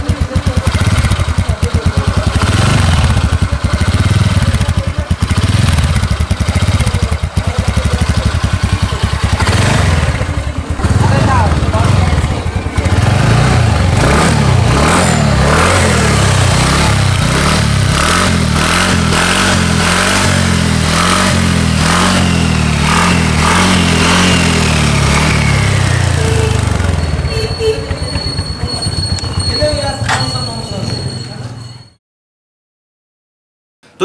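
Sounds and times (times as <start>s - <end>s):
scooter engine revving: 0.0s - 31.6s.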